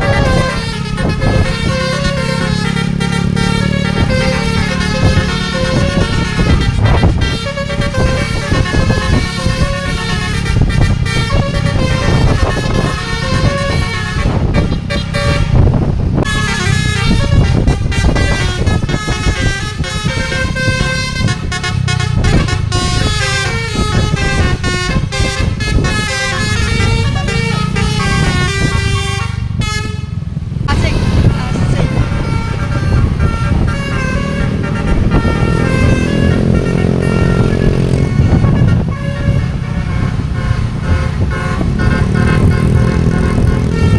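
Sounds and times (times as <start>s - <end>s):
bus air horn playing a tune: 0.0s - 43.9s
engine and road noise rumble: 0.0s - 43.9s.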